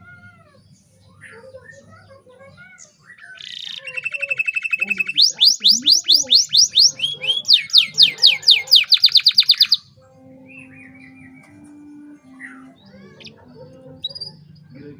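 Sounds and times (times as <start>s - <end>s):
canary singing: 0.0s - 14.9s.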